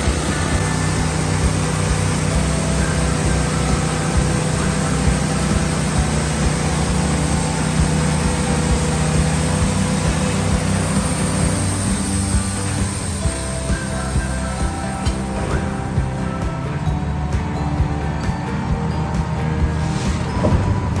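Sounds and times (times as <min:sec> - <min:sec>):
sawmill engine humming: 0:00.0 - 0:21.0.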